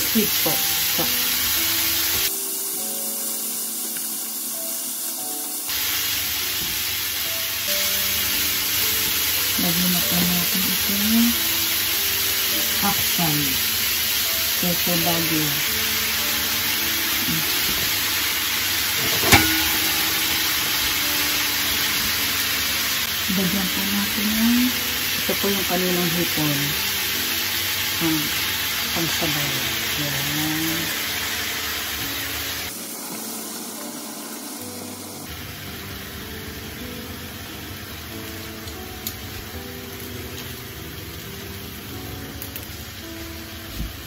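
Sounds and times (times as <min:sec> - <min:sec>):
vegetables sizzling in a frying pan: 0:00.0 - 0:44.0.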